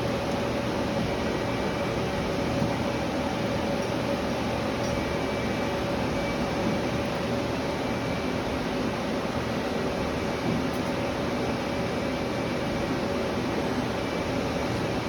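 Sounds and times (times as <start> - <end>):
lathe running with mechanical hum: 0.0 - 15.0.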